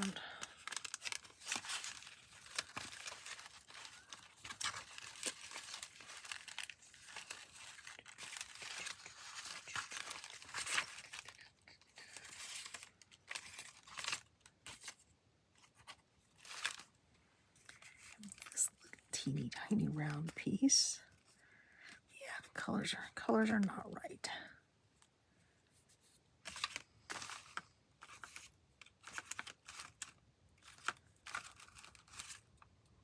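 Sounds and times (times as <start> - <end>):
paper and cards rustling: 0.0 - 16.9, 17.5 - 22.5, 25.7 - 32.6.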